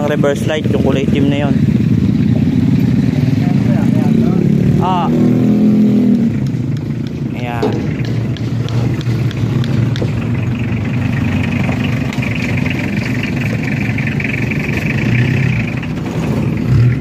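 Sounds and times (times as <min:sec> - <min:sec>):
engine idling: 0:00.0 - 0:05.1, 0:06.2 - 0:17.0.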